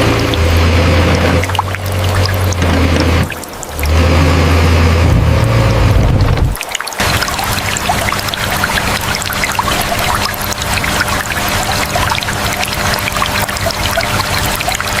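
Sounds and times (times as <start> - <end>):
faint steady hum: 0.0 - 15.0
water running and trickling: 0.0 - 15.0.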